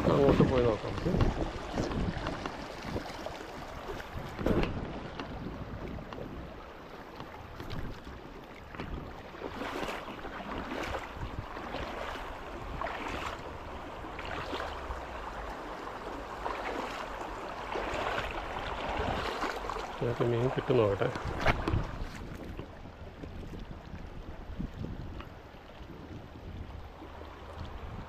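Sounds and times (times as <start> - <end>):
wind buffeting microphone: 0.0 - 15.6, 17.5 - 28.0
river water running over rocks: 0.0 - 28.0.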